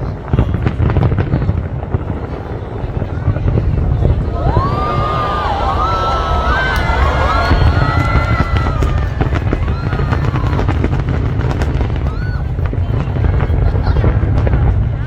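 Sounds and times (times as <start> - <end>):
crowd voices: 0.0 - 15.0
fireworks booming: 0.0 - 15.0
fireworks cracking: 0.0 - 15.0.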